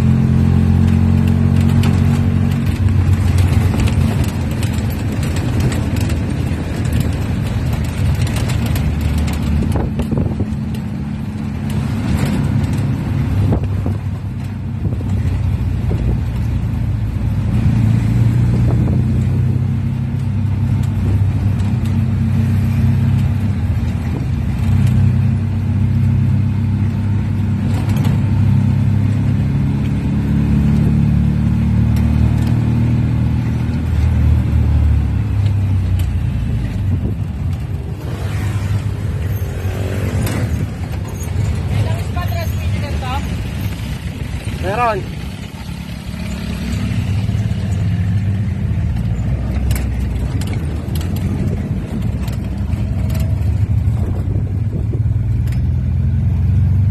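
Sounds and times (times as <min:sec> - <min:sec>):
jeep engine running: 0:00.0 - 0:56.9
road noise: 0:00.0 - 0:56.9.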